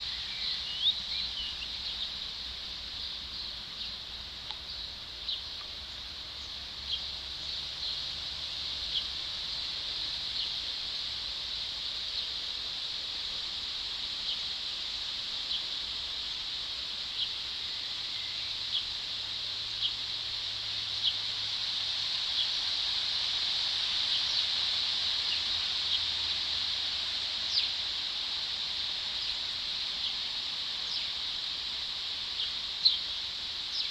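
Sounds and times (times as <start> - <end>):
high-pitched hiss: 0.0 - 33.9.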